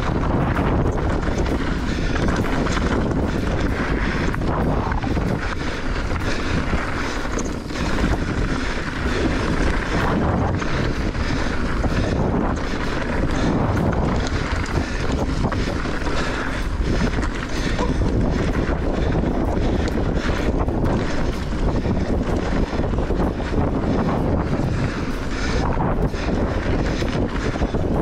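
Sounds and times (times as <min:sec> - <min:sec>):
bike tyre noise: 0:00.0 - 0:28.0
wind rushing over microphone: 0:00.0 - 0:28.0.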